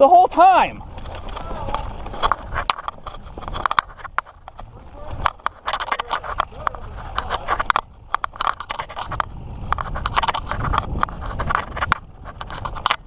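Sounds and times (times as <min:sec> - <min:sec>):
bike rattling and clicking: 0:00.0 - 0:13.0
bike tyres on dirt: 0:00.0 - 0:13.0
wind on microphone: 0:00.8 - 0:13.0.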